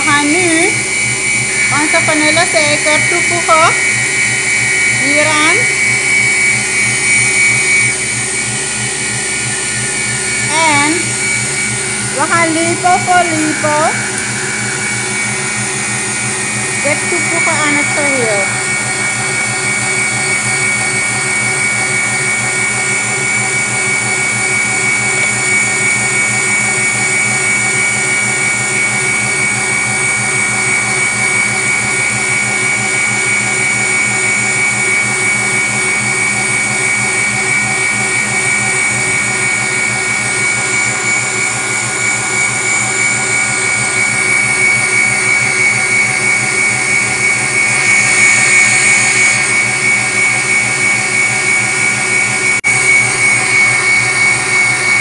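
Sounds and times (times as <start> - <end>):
stand mixer whining: 0.0 - 55.0.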